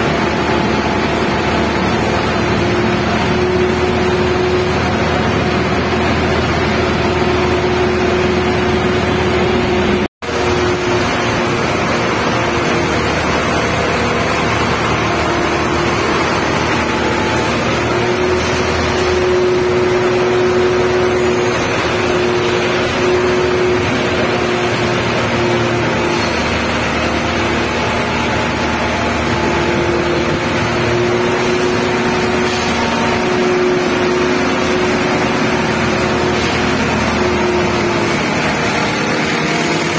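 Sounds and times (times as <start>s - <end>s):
heavy construction machinery drone: 0.0s - 39.9s.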